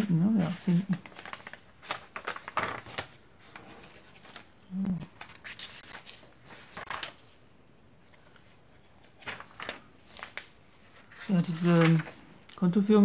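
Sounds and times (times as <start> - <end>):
paper rustling and crinkling: 0.0 - 7.4, 8.0 - 12.3.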